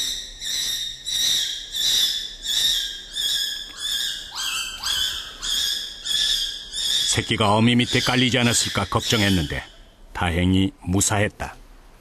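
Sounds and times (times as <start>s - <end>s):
young chimpanzee screaming: 0.0s - 9.8s.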